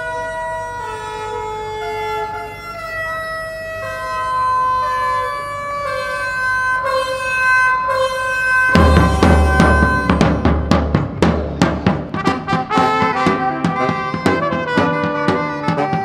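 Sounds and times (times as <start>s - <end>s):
train horns playing chords: 0.0s - 16.0s.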